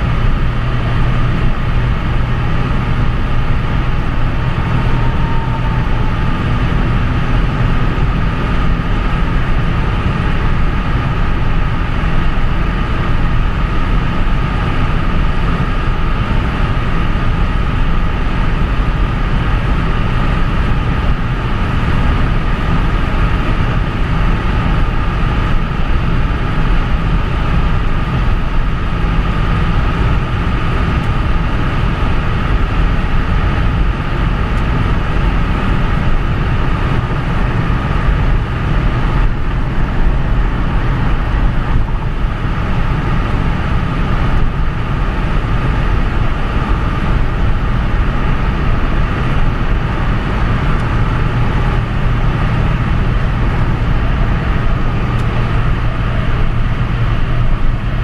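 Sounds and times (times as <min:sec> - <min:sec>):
car engine drone: 0:00.0 - 0:58.0
high whine: 0:00.0 - 0:58.0.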